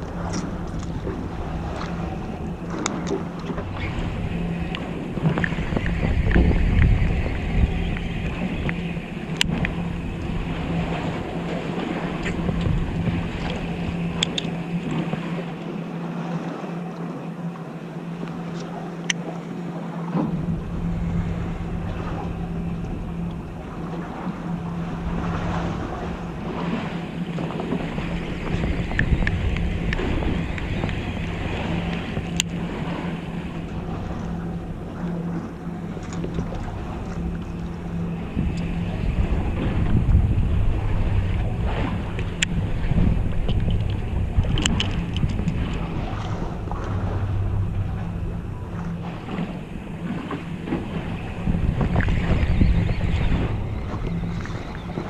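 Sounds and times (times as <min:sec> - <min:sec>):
boat engine idling: 0:00.0 - 0:55.0
wind rumbling on microphone: 0:00.0 - 0:55.0.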